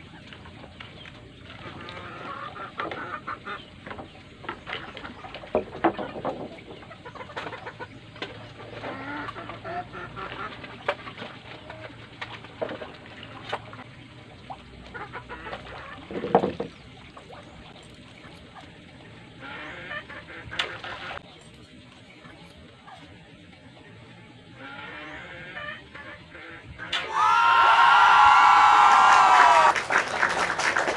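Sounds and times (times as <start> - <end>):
chickens clucking: 0.1 - 27.0.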